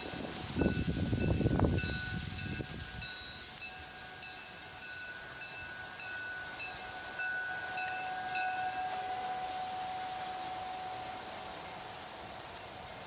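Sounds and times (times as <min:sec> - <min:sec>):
level crossing warning bell: 0:00.1 - 0:12.1.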